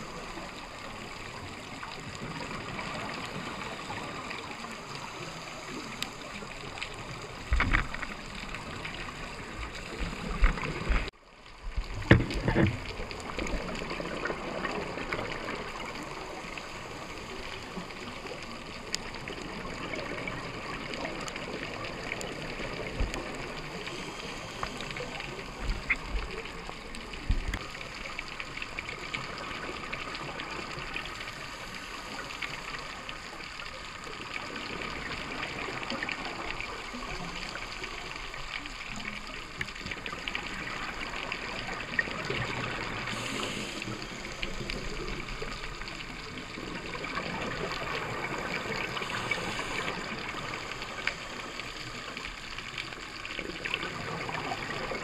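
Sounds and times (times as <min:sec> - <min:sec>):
underwater watery hiss: 0:00.0 - 0:11.1, 0:12.8 - 0:55.0.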